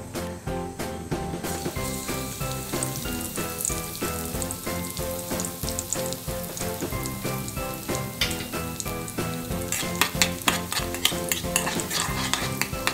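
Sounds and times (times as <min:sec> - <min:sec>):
background music: 0:00.0 - 0:12.9
food sizzling in a pan: 0:00.1 - 0:12.9.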